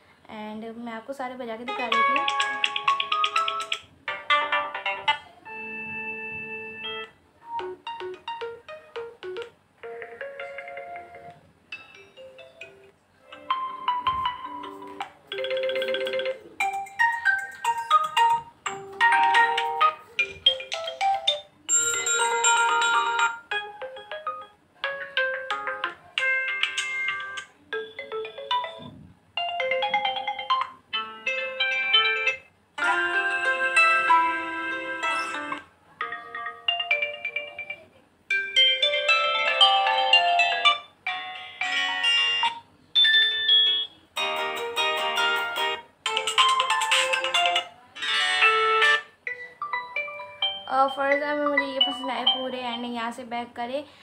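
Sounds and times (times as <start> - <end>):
smartphone ringtone melodies: 1.7 - 53.1.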